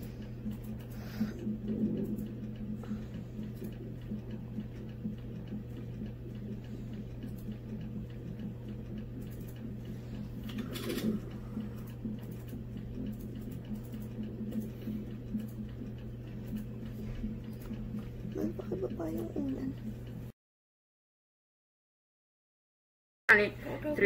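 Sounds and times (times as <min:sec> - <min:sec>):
fetal heart monitor pulsing: 0:00.0 - 0:20.3
steady low hum: 0:00.0 - 0:20.3.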